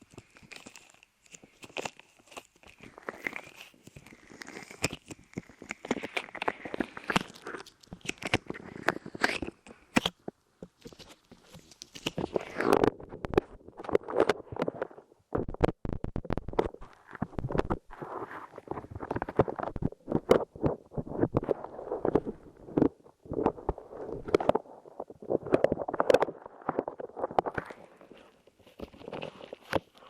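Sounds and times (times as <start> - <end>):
clay being squeezed and pulled: 0.0 - 30.0.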